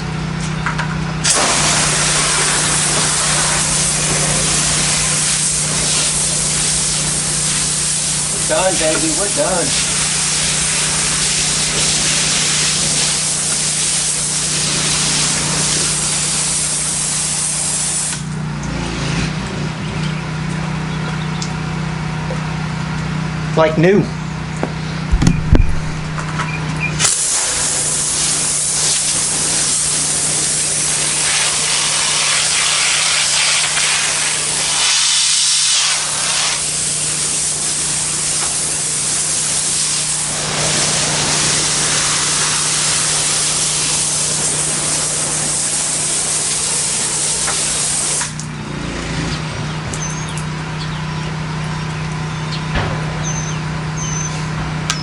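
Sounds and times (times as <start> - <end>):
pressure washer engine humming: 0.0 - 55.0
pressure washer spraying water: 1.1 - 19.0, 25.0 - 55.0.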